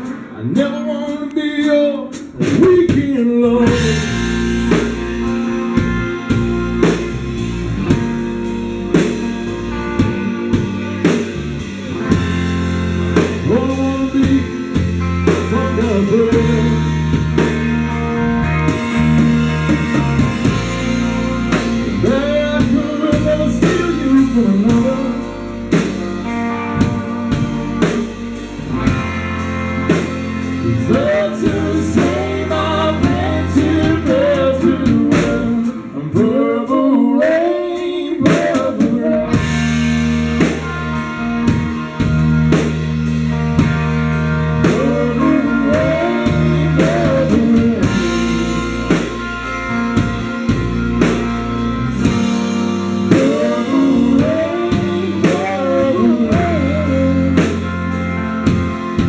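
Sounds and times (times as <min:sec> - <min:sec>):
person singing: 0:00.0 - 0:08.0, 0:08.9 - 0:29.1, 0:29.9 - 0:40.9, 0:44.3 - 0:50.4, 0:52.0 - 0:59.0
drum kit beat: 0:00.0 - 0:36.4, 0:38.2 - 0:59.0
bass guitar: 0:00.0 - 0:59.0
electric guitars: 0:00.0 - 0:59.0.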